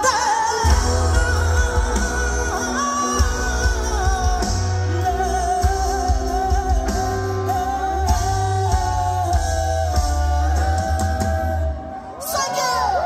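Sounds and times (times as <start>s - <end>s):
live rock band playing: 0.0s - 12.6s.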